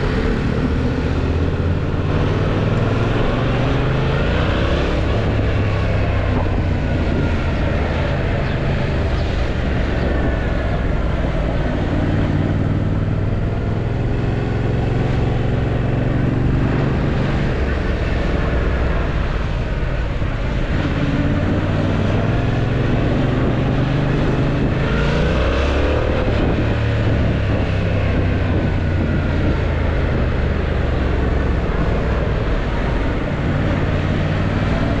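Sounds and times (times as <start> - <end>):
motorcycle engine accelerating: 0.0 - 35.0
road noise: 0.0 - 35.0.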